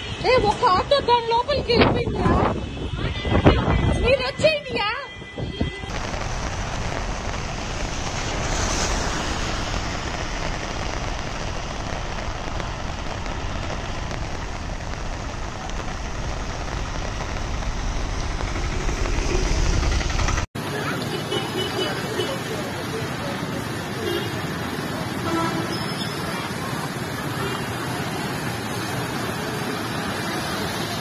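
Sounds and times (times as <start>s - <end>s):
heavy rain and pouring water: 5.9s - 31.0s.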